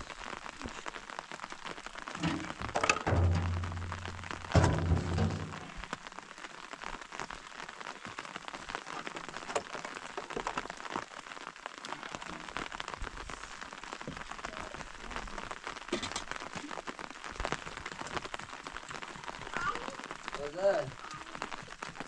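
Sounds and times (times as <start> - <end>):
rain pattering on a surface: 0.0 - 22.0.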